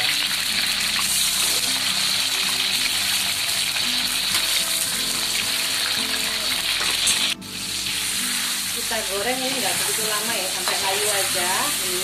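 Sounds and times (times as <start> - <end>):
tomato frying in hot oil: 0.0 - 12.0.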